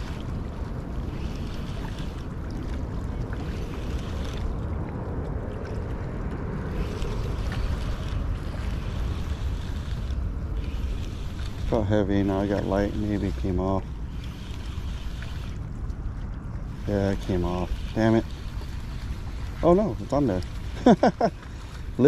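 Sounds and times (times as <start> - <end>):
waves lapping on rocks: 0.0 - 22.0
wind rumbling on microphone: 0.0 - 22.0.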